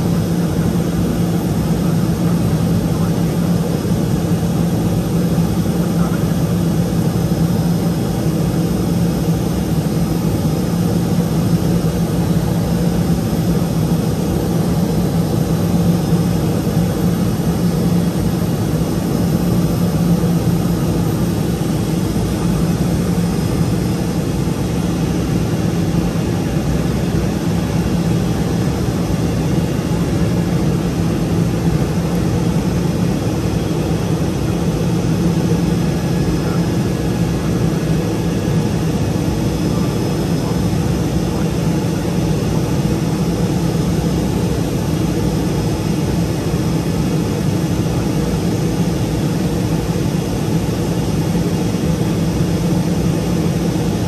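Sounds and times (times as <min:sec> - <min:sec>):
turboprop engine drone: 0:00.0 - 0:54.0.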